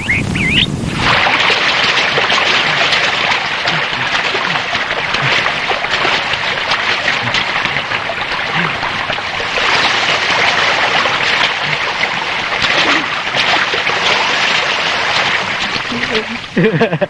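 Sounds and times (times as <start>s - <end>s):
stream running over rocks: 0.0s - 17.0s
water scooped by hand: 0.9s - 16.6s.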